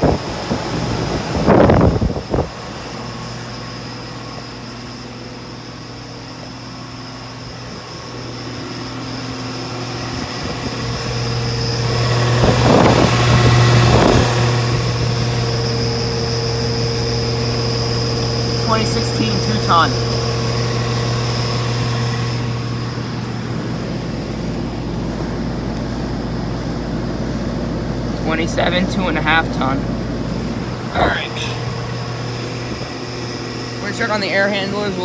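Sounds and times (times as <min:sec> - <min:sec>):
air conditioner compressor hum: 0:00.0 - 0:35.0.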